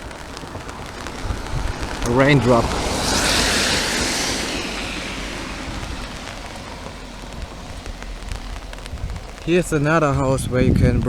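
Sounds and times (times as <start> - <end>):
steady rain: 0.0 - 11.0
tyres hissing on wet road: 0.0 - 11.0.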